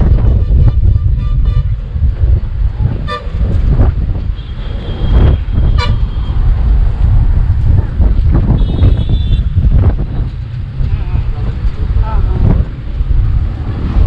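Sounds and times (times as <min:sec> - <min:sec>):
heavy low rumble: 0:00.0 - 0:14.0.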